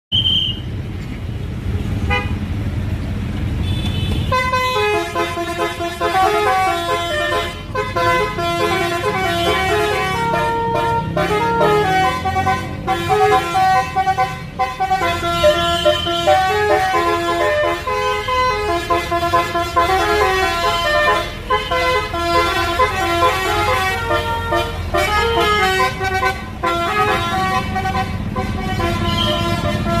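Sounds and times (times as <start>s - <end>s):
bus engine rumbling: 0.1s - 30.0s
musical horn melody: 4.3s - 30.0s.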